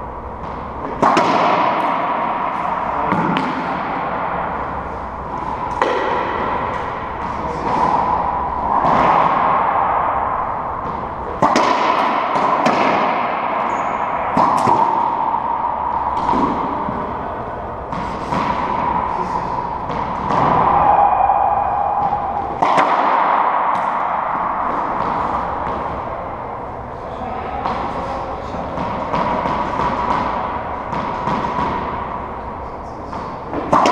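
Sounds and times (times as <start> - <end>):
racquetball hits echoing: 0.3 - 33.9.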